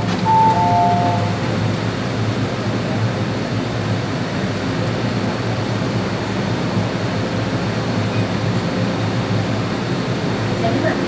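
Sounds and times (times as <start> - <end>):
train standing at platform humming: 0.0 - 11.0.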